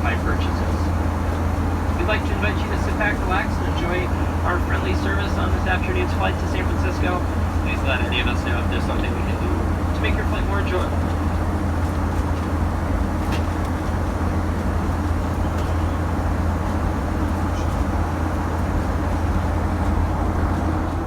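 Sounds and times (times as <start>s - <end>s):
engine and airflow rumble: 0.0s - 21.0s.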